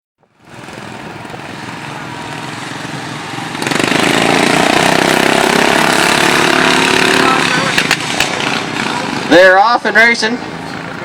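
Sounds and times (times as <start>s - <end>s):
racing lawnmower engines droning: 0.2s - 11.0s.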